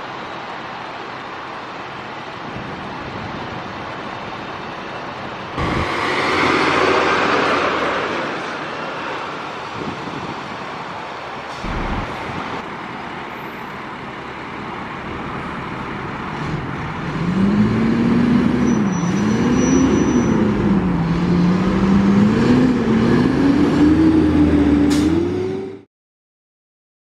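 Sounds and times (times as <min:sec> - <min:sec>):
fire truck diesel engine: 0:00.0 - 0:25.9
traffic noise: 0:00.0 - 0:25.9.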